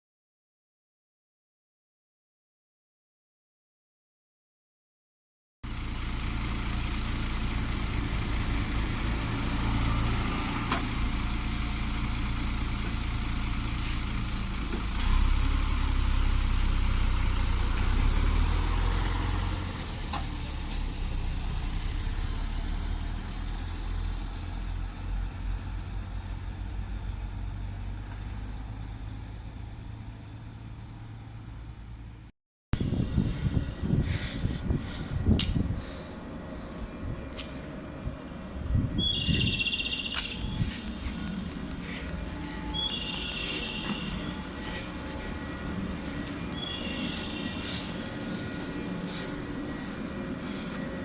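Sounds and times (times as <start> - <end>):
train rumbling: 8.1 - 31.5, 32.8 - 51.0.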